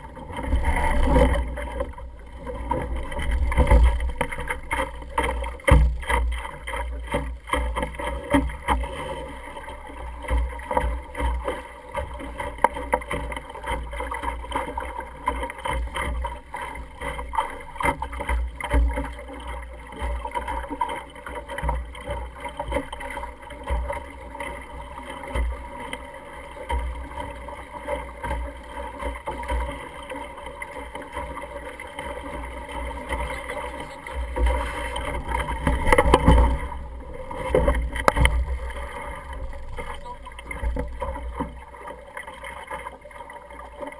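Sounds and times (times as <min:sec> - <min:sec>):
water slapping along hull: 0:00.0 - 0:43.9.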